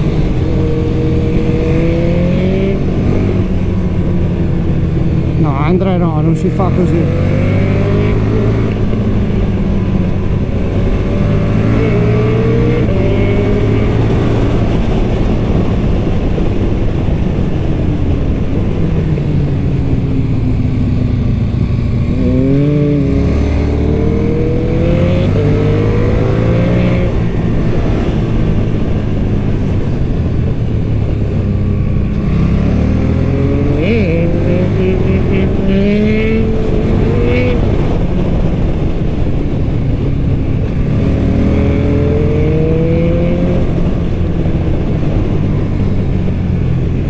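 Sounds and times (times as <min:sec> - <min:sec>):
motorcycle engine revving: 0:00.0 - 0:17.0, 0:17.8 - 0:47.0.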